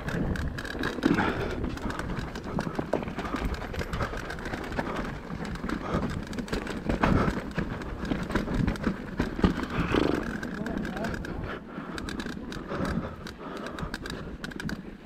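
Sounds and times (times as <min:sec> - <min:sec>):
bike knocks and rattles: 0:00.0 - 0:15.0.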